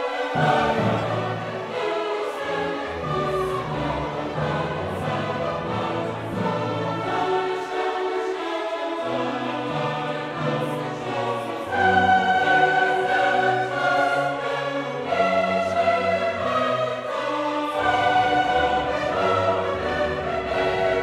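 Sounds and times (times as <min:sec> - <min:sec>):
choral music with sustained chords: 0:00.0 - 0:21.0.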